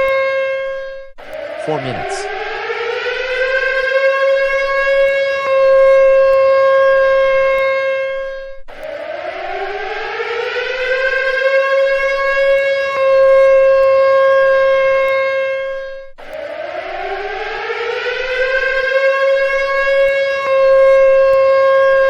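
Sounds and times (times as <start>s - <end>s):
civil defense siren rising tone: 0.0s - 22.0s.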